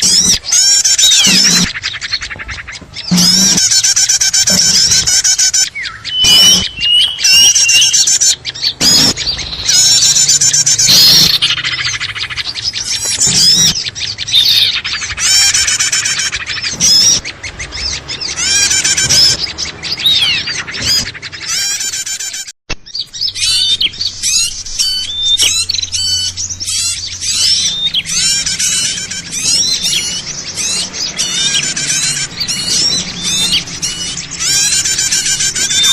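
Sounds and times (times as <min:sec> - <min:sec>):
small birds chirping and twittering: 0:00.0 - 0:35.9.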